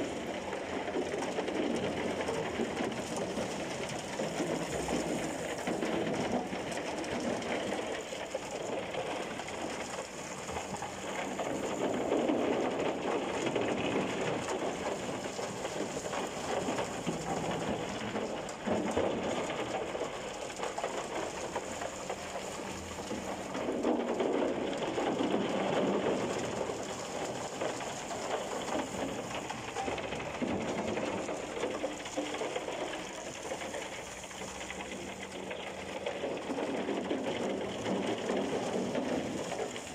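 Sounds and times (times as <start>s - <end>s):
concrete chunks rattling in drum: 0.0s - 39.9s.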